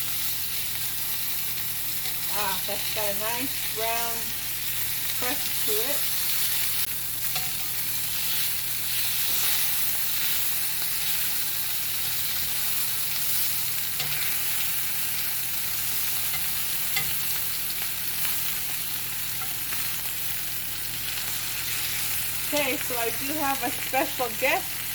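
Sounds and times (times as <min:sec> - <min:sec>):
chicken sizzling in a pan: 0:00.0 - 0:24.9.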